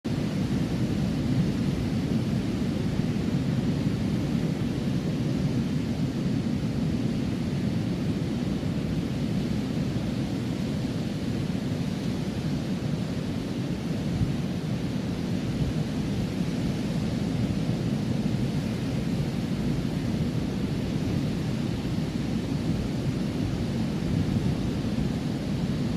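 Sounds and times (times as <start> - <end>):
seashore wind: 0.0 - 25.9
ocean surf: 0.1 - 25.9.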